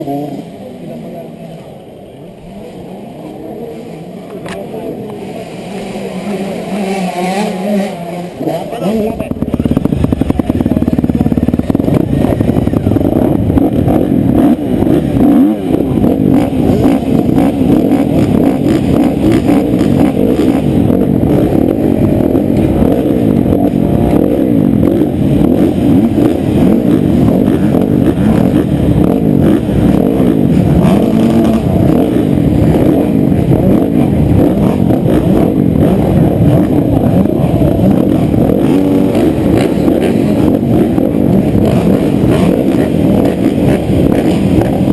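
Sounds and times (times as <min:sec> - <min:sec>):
motocross bikes racing: 0:00.0 - 0:44.9
motorcycle engine revving hard: 0:04.9 - 0:44.9.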